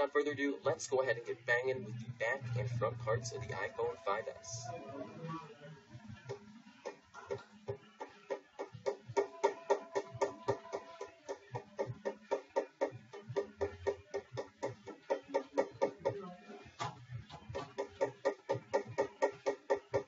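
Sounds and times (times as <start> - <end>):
electronic music with fast beat: 0.0 - 20.0.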